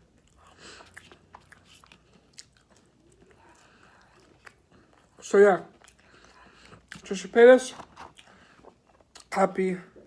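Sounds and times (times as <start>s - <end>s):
soft chewing: 0.0s - 10.0s.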